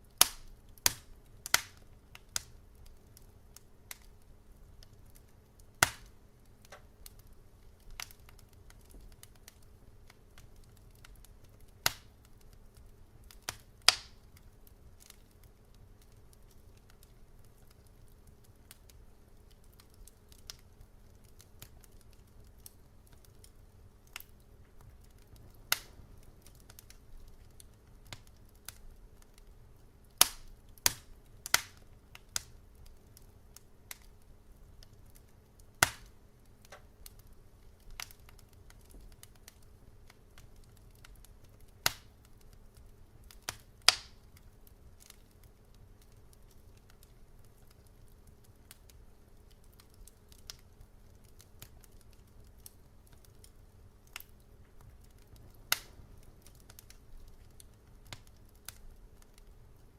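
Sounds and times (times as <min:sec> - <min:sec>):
faint low hum: 0:00.0 - 0:59.9
fire pops and snaps: 0:00.0 - 0:59.9.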